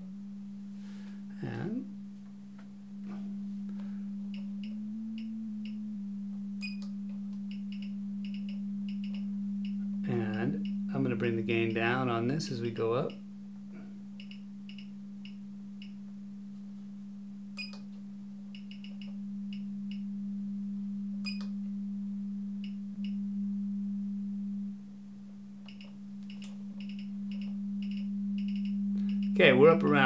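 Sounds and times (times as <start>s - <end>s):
sine-wave test tone: 0.0s - 30.0s.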